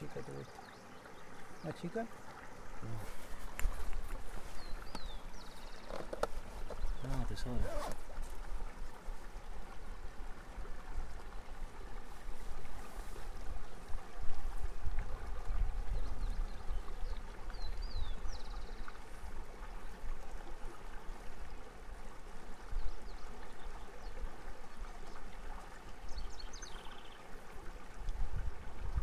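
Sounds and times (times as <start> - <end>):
river water running: 0.0 - 29.0.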